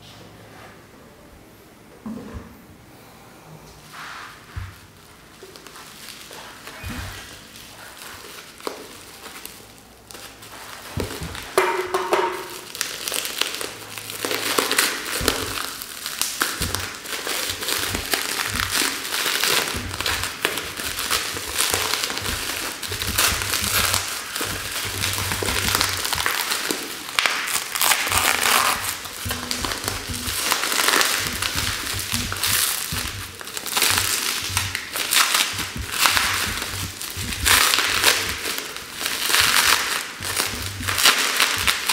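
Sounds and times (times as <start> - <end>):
bubble wrap and cling film crinkling: 4.0 - 41.9.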